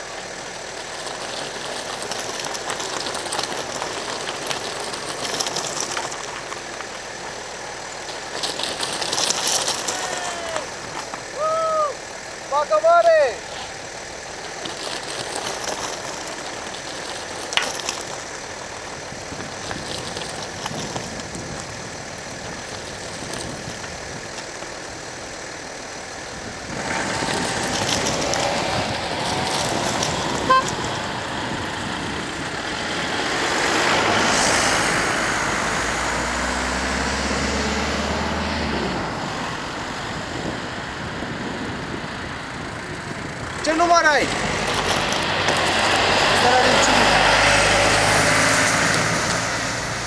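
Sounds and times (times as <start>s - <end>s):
traffic passing on asphalt: 0.0s - 50.0s
truck engine running: 0.0s - 50.0s.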